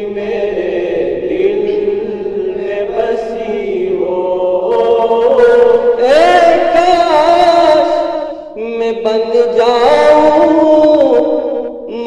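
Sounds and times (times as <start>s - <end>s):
group singing in chorus: 0.0s - 12.0s.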